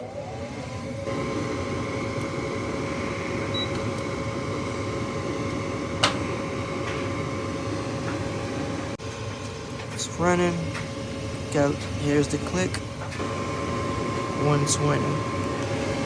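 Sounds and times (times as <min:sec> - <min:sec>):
furnace motor whining: 0:00.0 - 0:16.0.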